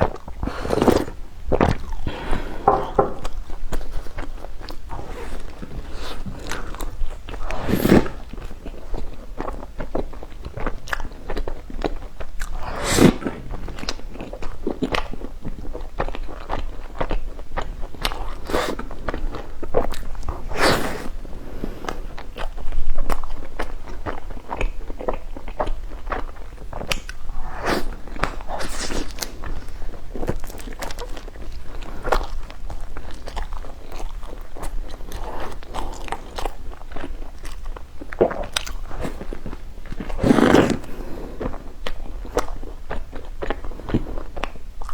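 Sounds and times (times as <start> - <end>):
crunchy chewing and biting: 0.0 - 21.2, 21.9 - 44.9.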